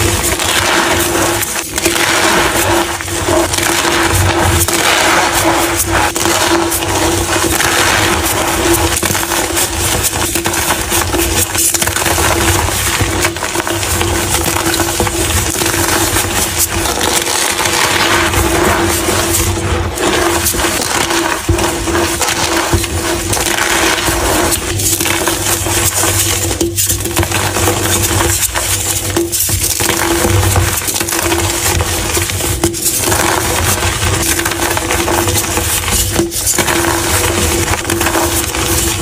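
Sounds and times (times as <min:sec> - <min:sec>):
chalk blocks crunching: 0:00.0 - 0:39.0.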